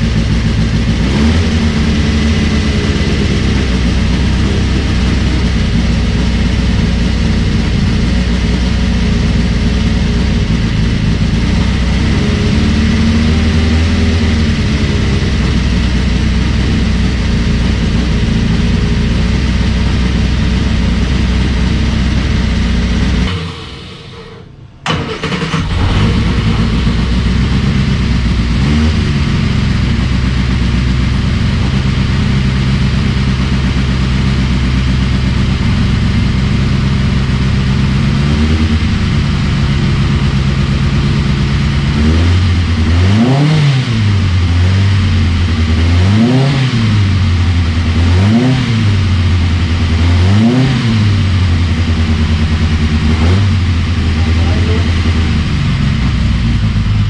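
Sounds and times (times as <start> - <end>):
car engine idling with throttle blips: 0.0 - 57.0.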